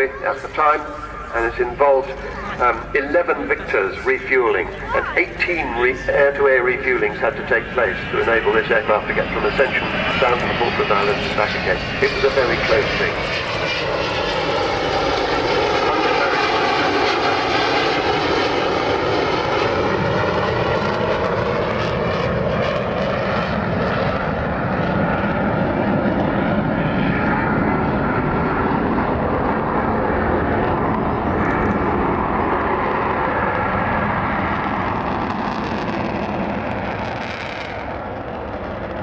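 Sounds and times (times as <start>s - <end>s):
jet bomber flying past: 0.0s - 39.0s.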